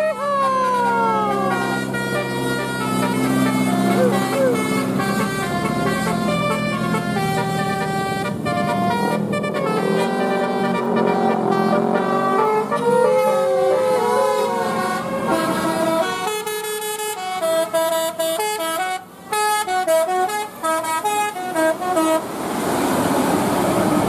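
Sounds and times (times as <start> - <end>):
multi-tone air horn tune: 0.0 - 22.2
bus engine and road noise: 0.0 - 24.0.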